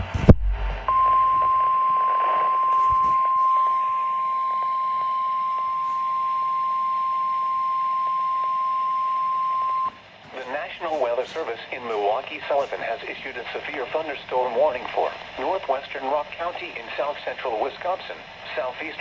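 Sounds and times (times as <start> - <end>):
faint radio static hiss: 2.0 - 19.0.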